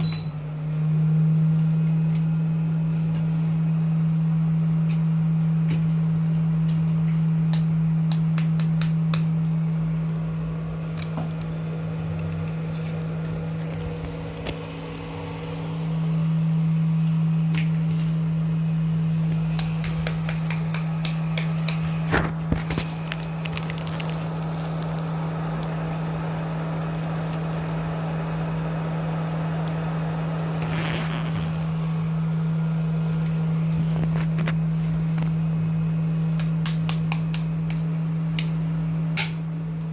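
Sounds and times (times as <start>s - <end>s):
eggs crackling in oil: 0.0s - 39.9s
steady low hum: 0.0s - 39.9s.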